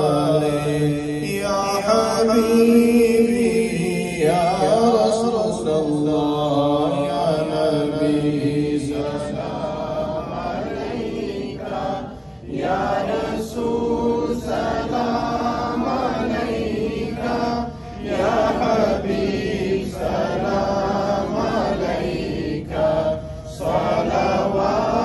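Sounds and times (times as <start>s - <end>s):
person chanting devotional song: 0.0s - 25.0s.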